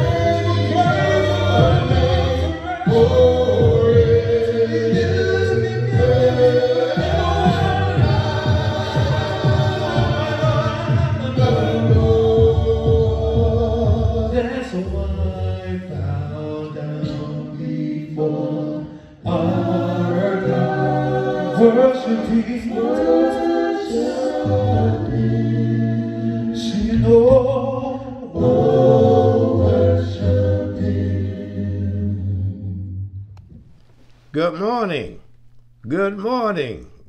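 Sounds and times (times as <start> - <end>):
men singing a cappella: 0.0 - 33.1.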